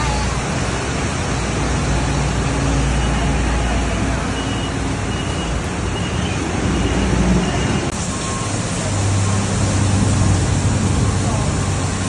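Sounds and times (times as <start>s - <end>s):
bus passing: 0.0s - 12.0s
heavy rain and water noise: 0.0s - 12.0s
vehicle engines running: 0.0s - 12.0s.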